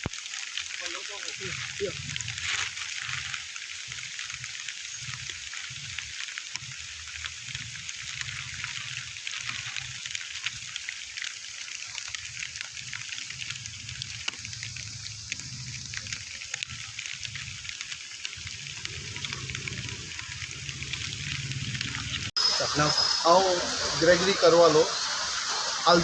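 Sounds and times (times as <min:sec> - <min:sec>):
rain hiss: 0:00.0 - 0:26.0
water drips and splashes: 0:00.0 - 0:26.0.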